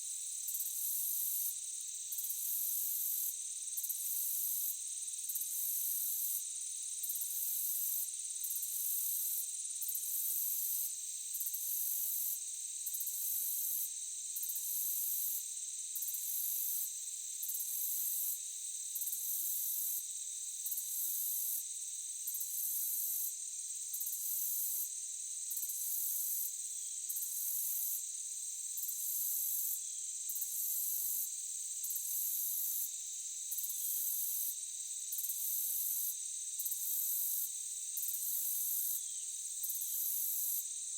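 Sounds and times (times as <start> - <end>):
high pulsing insect chirp: 0.1 - 40.9
insects trilling: 0.4 - 40.9.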